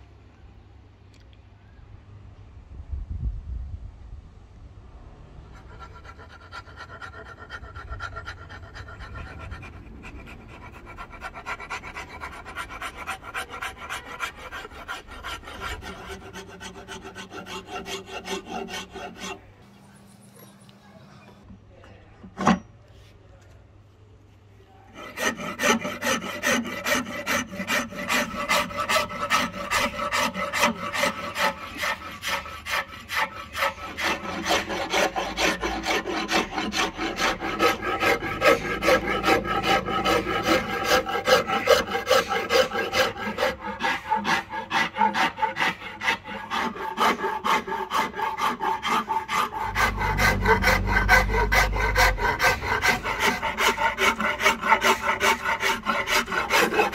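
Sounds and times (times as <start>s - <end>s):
file rasping on wood: 5.5s - 19.5s, 25.0s - 56.9s.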